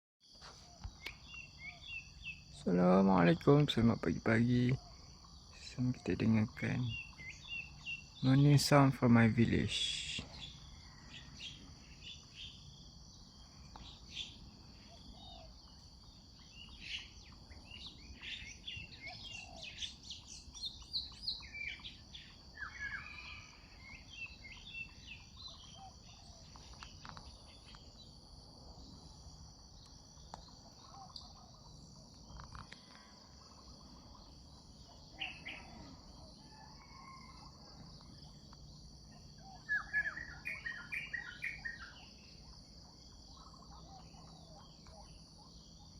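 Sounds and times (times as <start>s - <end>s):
high insect drone: 0.2s - 45.9s
birds chirping and calling: 0.5s - 28.2s, 30.1s - 45.9s.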